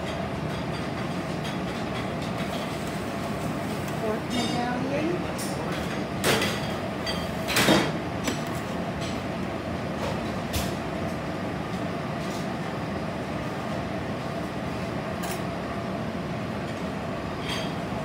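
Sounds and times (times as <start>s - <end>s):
kitchen equipment hum: 0.0s - 18.0s.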